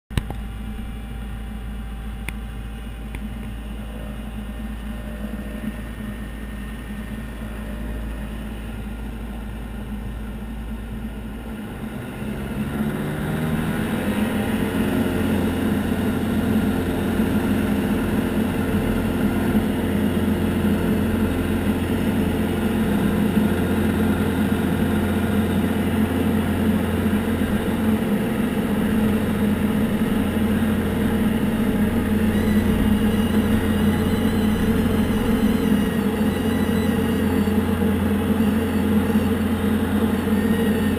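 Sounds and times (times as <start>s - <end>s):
propeller plane engine: 0.1s - 40.9s.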